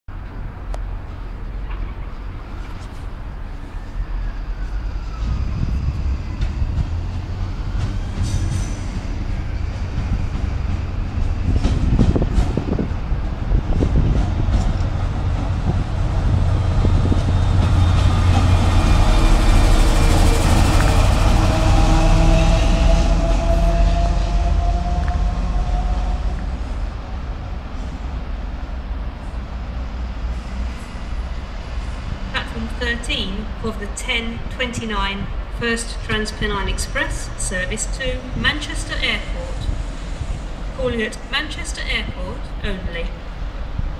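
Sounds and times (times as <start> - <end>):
diesel locomotive engine rumble: 0.1 - 43.9.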